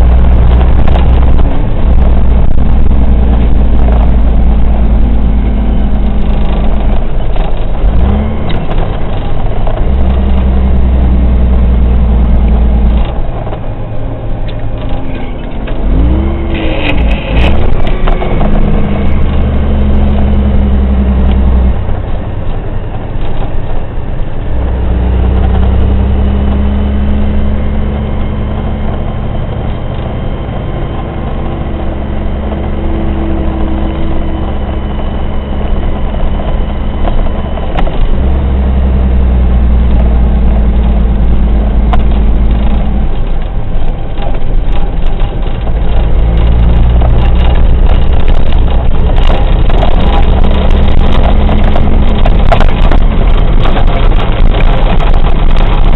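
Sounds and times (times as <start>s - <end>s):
truck diesel engine shifting gears: 0.0s - 55.9s.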